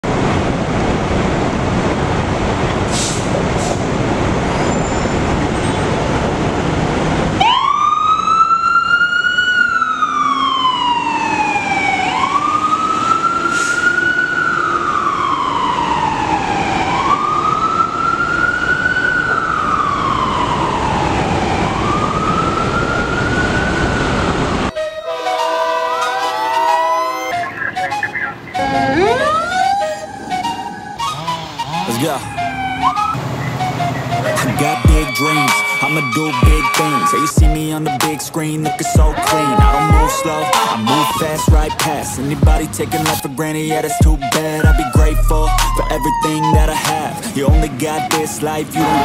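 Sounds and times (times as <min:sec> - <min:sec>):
fire truck siren wailing: 0:00.0 - 0:49.0
truck engine rumble: 0:00.0 - 0:49.0
fast sweeping siren: 0:07.4 - 0:49.0.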